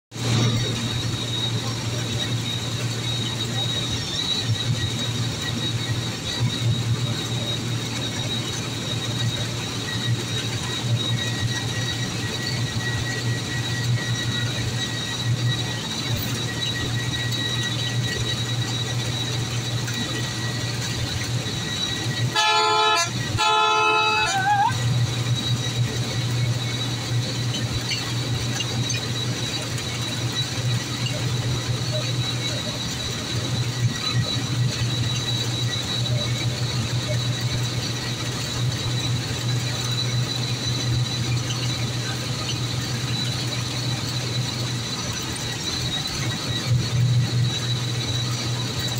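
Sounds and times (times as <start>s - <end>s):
bus engine drone: 0.0s - 48.9s
high-pitched whine: 0.1s - 48.9s
road noise: 0.1s - 48.9s.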